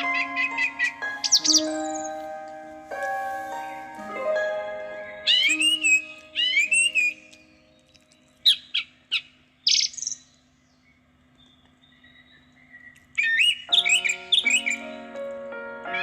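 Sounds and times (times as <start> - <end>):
soft sustained musical tones: 0.0 - 9.6, 10.2 - 16.0
bird chirping: 0.0 - 16.0.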